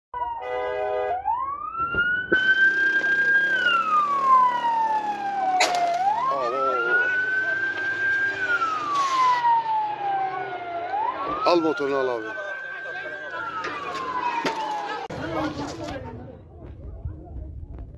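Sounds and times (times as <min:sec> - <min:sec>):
emergency vehicle siren wailing: 0:00.2 - 0:15.1.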